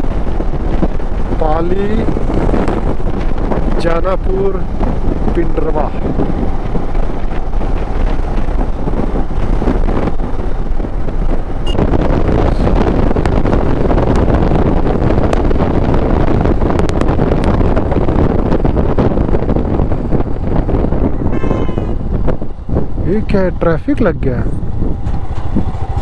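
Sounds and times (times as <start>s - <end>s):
motorcycle running: 0.0s - 26.0s
road noise: 0.0s - 26.0s
wind rushing over microphone: 0.0s - 26.0s.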